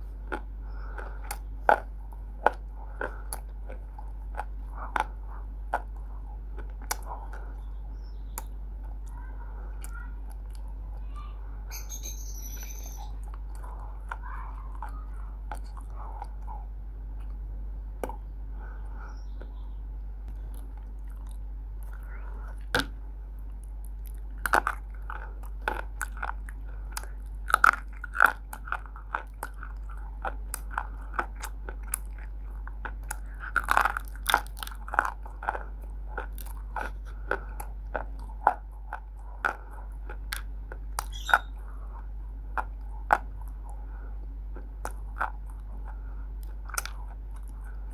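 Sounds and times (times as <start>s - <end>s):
crunching bites and chewing: 0.0s - 11.1s, 13.0s - 47.9s
steady low hum: 0.0s - 47.9s.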